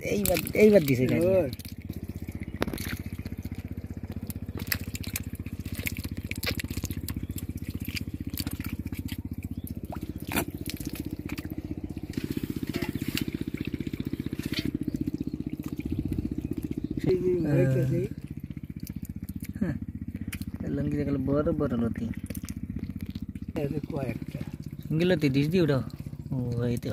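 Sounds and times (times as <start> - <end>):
water splashing and dripping: 0.0 - 21.0, 21.6 - 26.9
small engine chugging: 0.0 - 26.9
wet mud squelching: 0.0 - 26.9.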